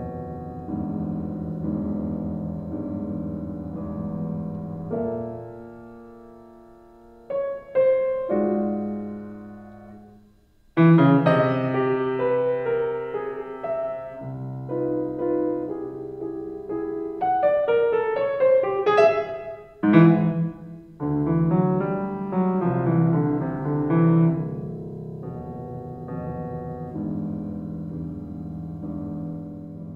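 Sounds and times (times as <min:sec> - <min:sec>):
piano chords: 0:00.0 - 0:29.9.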